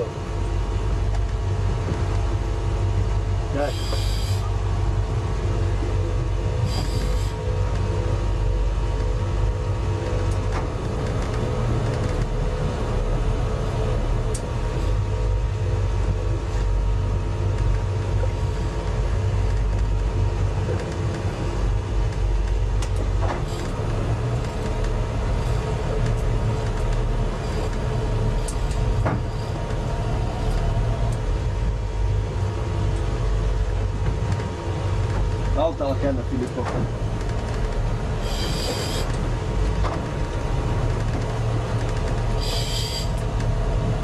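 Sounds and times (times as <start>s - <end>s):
boat engine humming: 0.0s - 44.0s.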